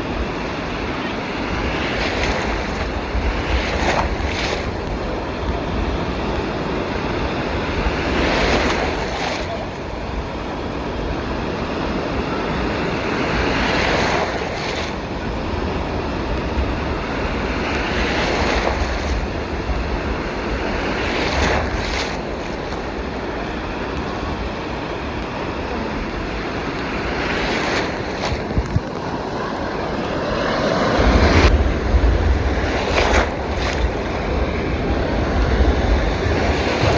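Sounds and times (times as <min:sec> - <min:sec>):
waves breaking on shore: 0:00.0 - 0:36.9
wind rumble on microphone: 0:00.0 - 0:36.9.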